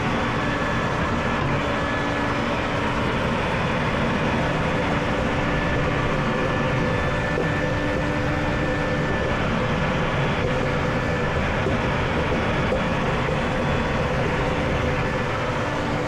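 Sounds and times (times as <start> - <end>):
machine rumbling and humming: 0.0 - 16.0.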